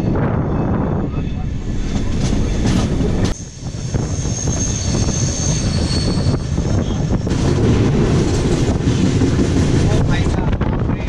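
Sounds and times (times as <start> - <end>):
train coach rumbling on rails: 0.0 - 11.0
wind on microphone: 0.0 - 11.0.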